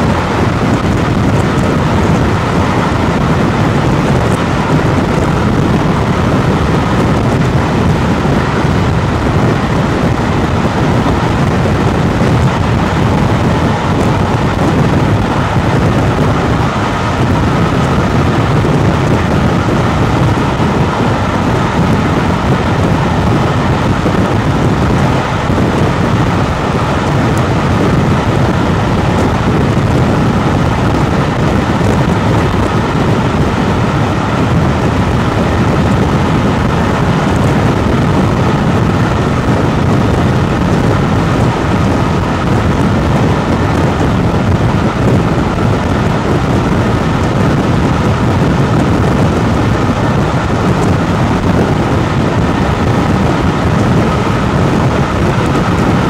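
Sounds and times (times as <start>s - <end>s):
air rushing past: 0.0s - 56.0s
train wheels rumbling on rails: 0.0s - 56.0s.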